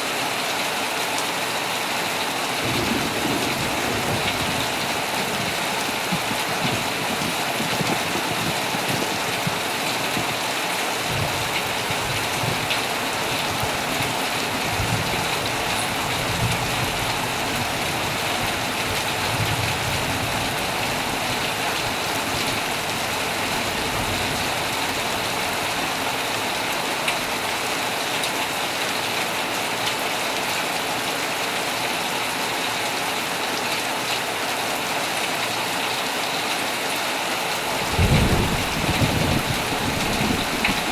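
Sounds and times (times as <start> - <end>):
heavy rain on a tent: 0.0 - 40.9.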